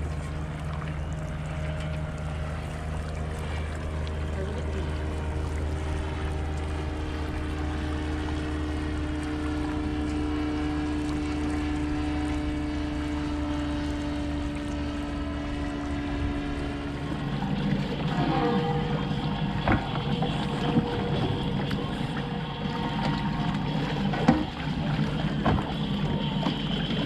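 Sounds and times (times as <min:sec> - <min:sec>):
propeller engine droning overhead: 0:00.0 - 0:27.0.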